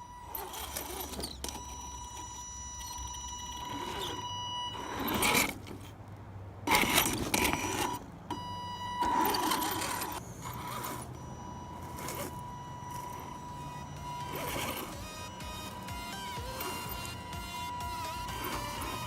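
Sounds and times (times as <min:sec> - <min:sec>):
electric motor whining: 0:00.0 - 0:06.0, 0:06.6 - 0:19.0.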